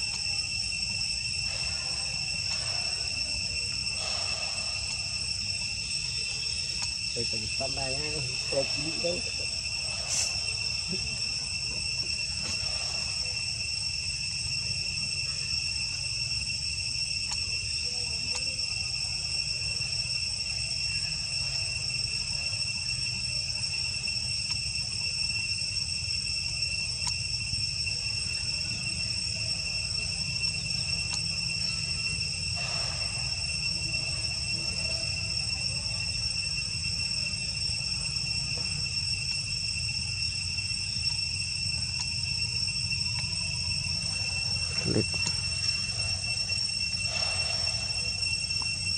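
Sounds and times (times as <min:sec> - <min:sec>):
high-pitched insect drone: 0:00.0 - 0:48.9.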